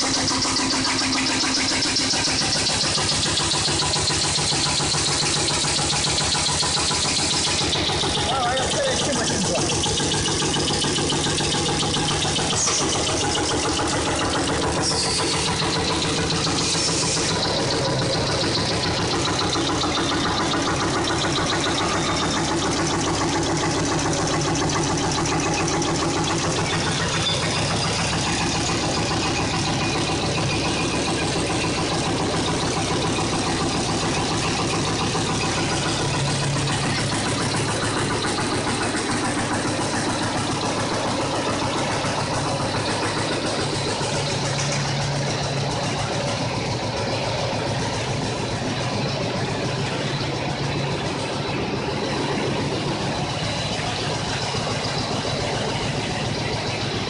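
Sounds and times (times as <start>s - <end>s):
constant hum tones: 0.0s - 57.0s
extrusion machinery drone: 0.0s - 57.0s.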